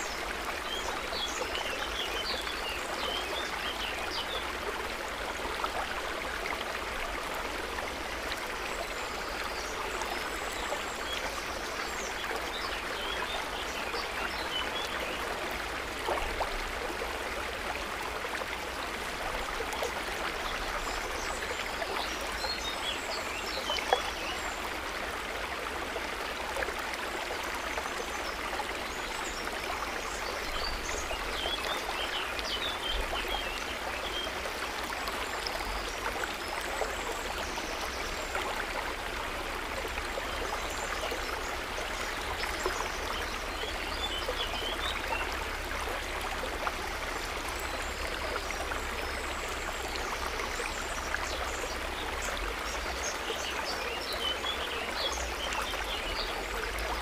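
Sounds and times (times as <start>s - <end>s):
water trickling and babbling: 0.0s - 57.0s.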